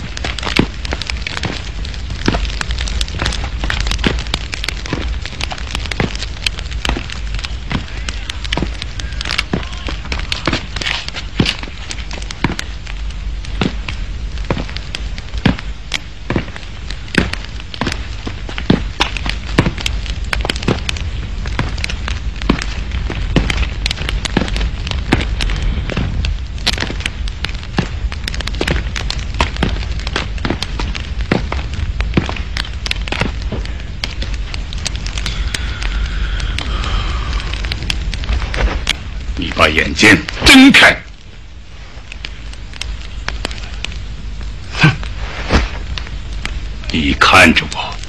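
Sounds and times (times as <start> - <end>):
crackling clicks and pops: 0.0 - 48.0
low hum: 0.0 - 48.0
low steady rumble: 0.0 - 48.0.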